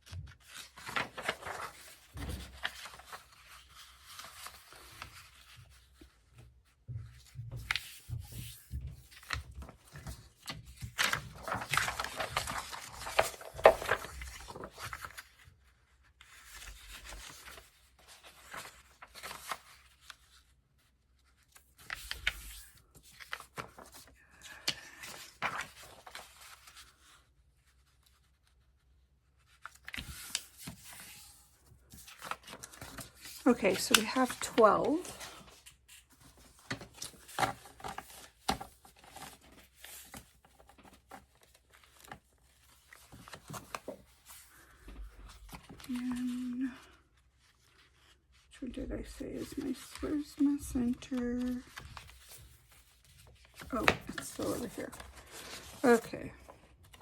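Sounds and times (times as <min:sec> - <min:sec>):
paper rustling and sliding: 0:00.0 - 0:06.5, 0:07.2 - 0:20.6, 0:21.2 - 0:28.6, 0:29.4 - 0:48.4, 0:49.0 - 0:57.0.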